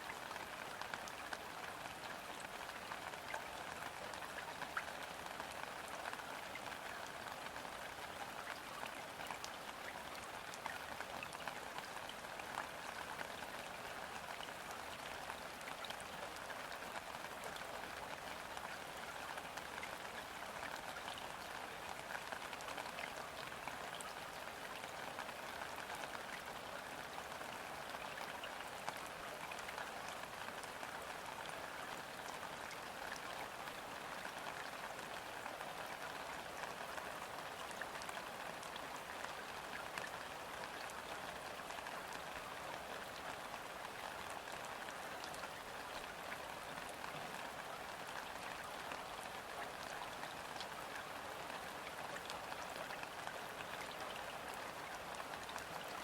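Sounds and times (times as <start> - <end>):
gentle rain on a river: 0.0 - 56.0.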